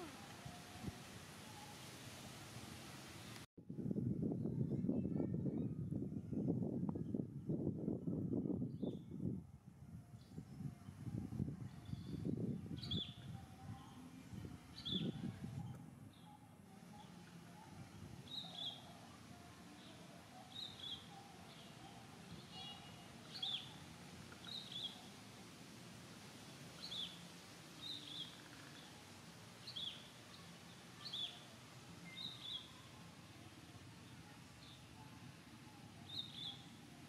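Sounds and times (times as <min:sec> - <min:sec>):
faint low background noise: 0:00.0 - 0:37.0.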